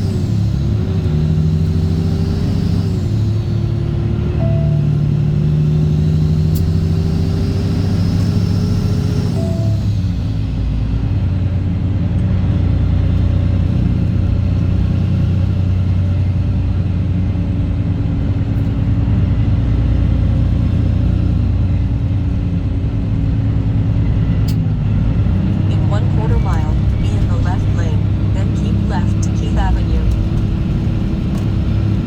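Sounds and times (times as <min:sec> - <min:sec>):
diesel truck exhaust drone: 0:00.0 - 0:32.0.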